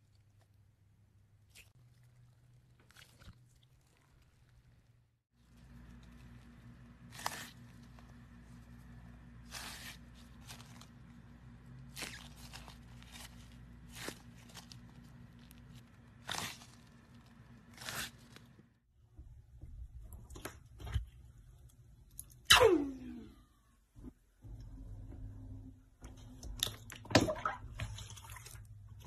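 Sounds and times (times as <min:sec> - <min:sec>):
steady low hum: 0:05.4 - 0:29.0.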